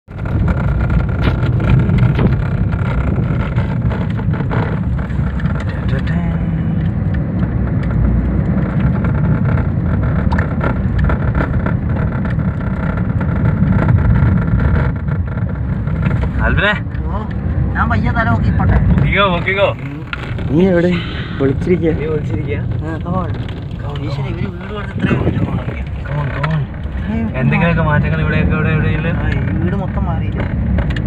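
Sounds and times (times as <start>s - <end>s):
engine and tyres rumbling: 0.0s - 31.0s
car knocking and rattling: 0.1s - 31.0s.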